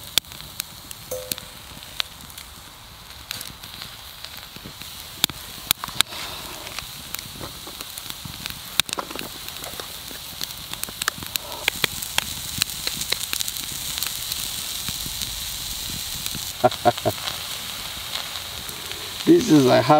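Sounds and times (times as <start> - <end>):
campfire crackling and popping: 0.0 - 19.9
food sizzling in frying: 0.0 - 19.9.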